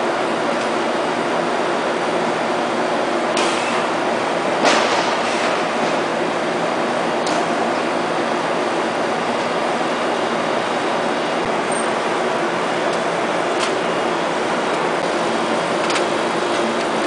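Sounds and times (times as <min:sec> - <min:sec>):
machinery running with low hum: 0:00.0 - 0:17.0.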